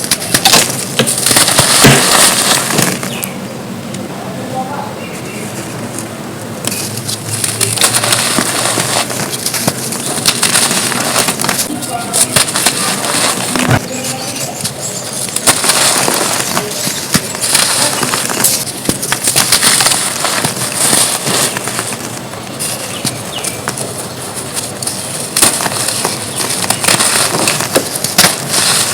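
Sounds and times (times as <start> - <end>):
dirt crumbling and crunching: 0.0 - 3.4, 6.6 - 28.9.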